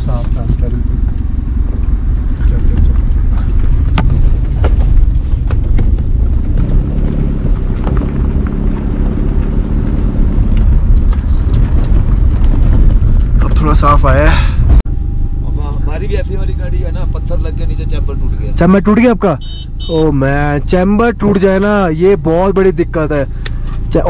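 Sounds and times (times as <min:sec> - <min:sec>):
car engine running under load: 0:00.0 - 0:24.0.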